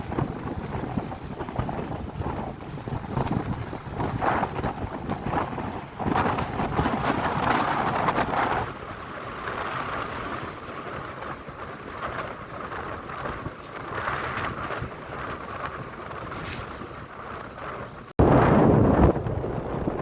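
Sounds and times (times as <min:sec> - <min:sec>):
sea waves washing: 0:00.0 - 0:18.2.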